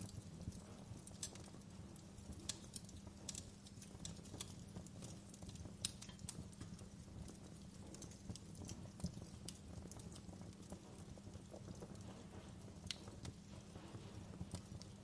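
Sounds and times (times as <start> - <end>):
burning logs crackling and popping: 0.0 - 15.0
fire rumbling: 0.0 - 15.0.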